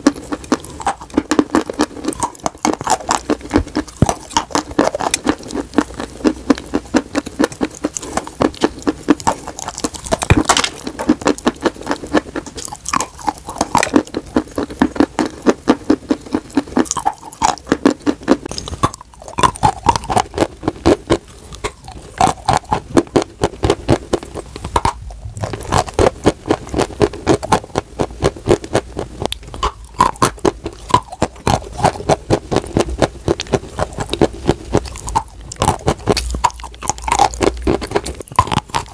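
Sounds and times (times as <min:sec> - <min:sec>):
crunching and chewing chalk: 0:00.0 - 0:38.9.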